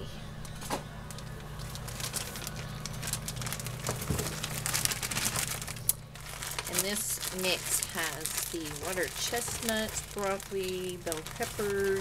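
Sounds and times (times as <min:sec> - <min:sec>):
plastic bag crinkling: 0:00.4 - 0:12.0.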